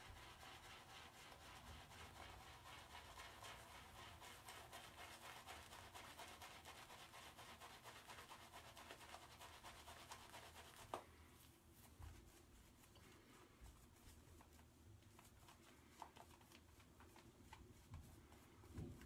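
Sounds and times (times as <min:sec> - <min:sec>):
shaving brush rubbing lather: 0:00.0 - 0:18.8.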